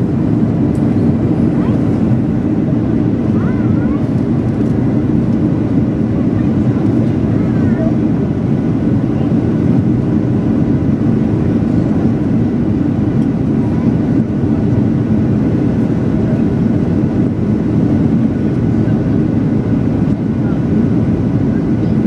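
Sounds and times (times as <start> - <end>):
jet engines rumbling in cabin: 0.0 - 22.0
rushing airflow: 0.0 - 22.0.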